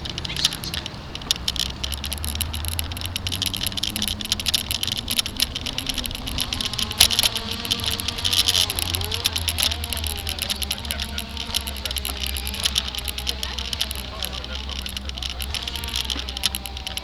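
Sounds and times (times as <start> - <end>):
camera rattling and clicking: 0.0 - 17.0
low rumble of bicycle ride: 0.0 - 17.0.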